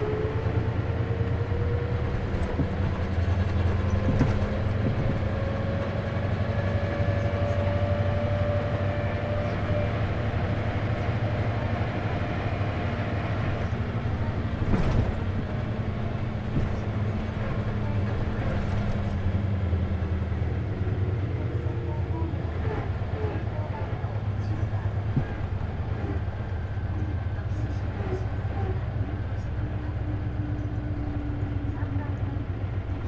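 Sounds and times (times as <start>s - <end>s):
bus diesel engine hum: 0.0s - 33.0s.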